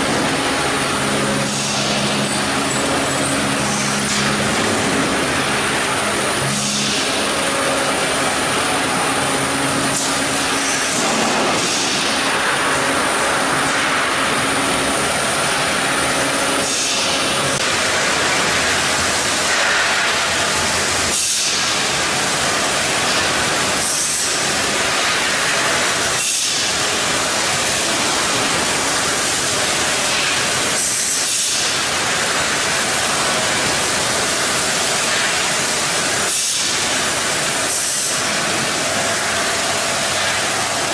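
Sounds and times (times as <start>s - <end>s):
industrial machine roar: 0.0s - 40.9s.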